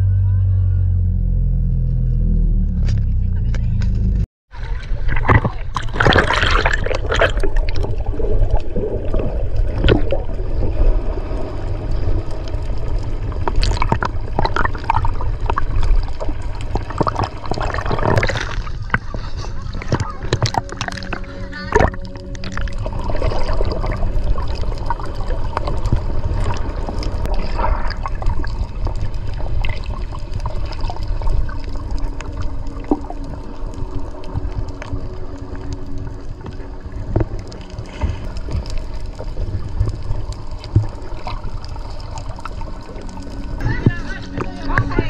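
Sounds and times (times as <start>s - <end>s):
steady low rumble: 0.0s - 45.0s
sea water splashing and gurgling: 4.5s - 45.0s.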